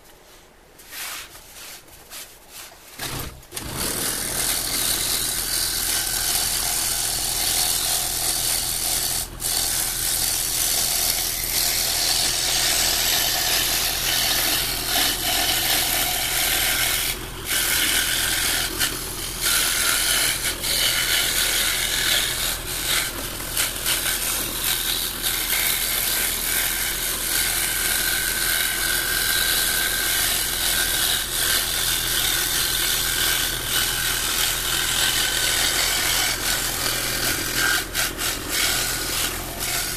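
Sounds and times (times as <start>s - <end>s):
scroll saw cutting wood: 2.9s - 39.9s.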